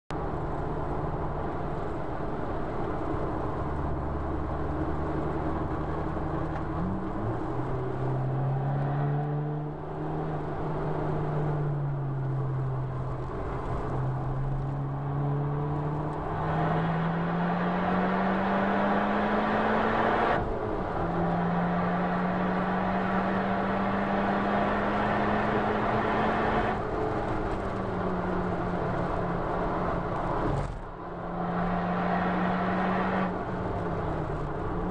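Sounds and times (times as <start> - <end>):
car engine under hard driving: 0.1 - 34.9
tyre and road noise: 0.1 - 34.9.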